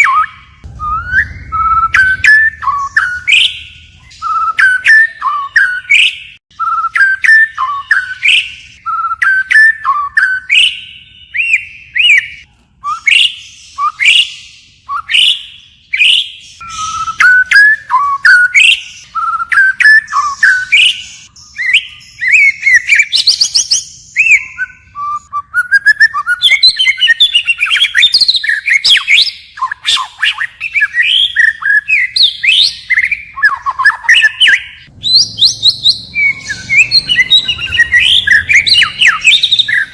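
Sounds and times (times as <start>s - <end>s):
songbird whistling varied phrases: 0.0s - 39.9s.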